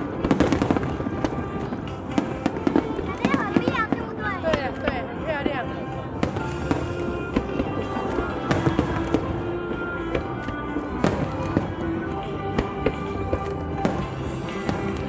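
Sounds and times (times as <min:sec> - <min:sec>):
fireworks bursting with sharp bangs: 0:00.0 - 0:15.0
music playing: 0:00.0 - 0:15.0.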